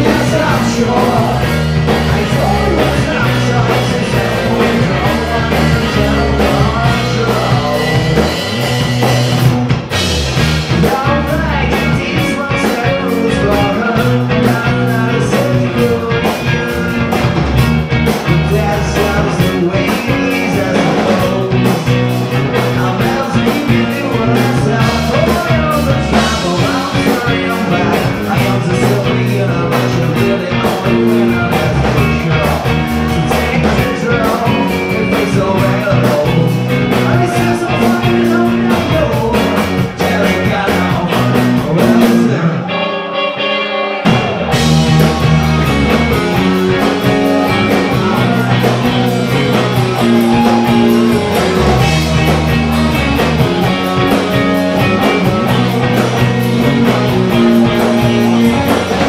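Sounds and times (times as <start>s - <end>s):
person singing: 0.0s - 9.0s, 10.6s - 17.5s, 18.1s - 59.0s
electric guitar alone: 0.0s - 59.0s
live rock band playing: 0.0s - 59.0s.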